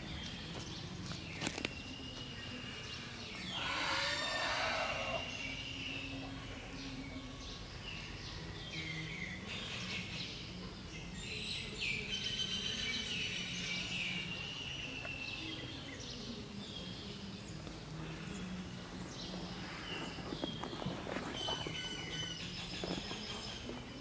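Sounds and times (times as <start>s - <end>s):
birds chirping and calling: 0.0s - 24.0s
steady low hum: 0.0s - 24.0s.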